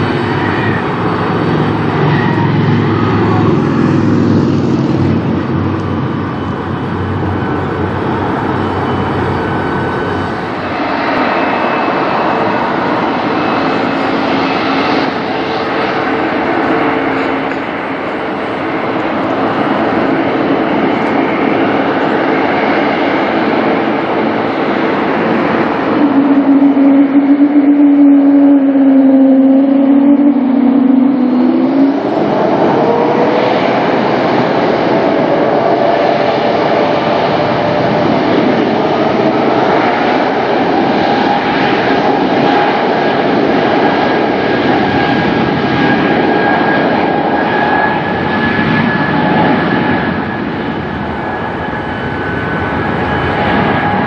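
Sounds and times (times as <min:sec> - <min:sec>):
jet engines roaring at takeoff: 0:00.0 - 0:54.0.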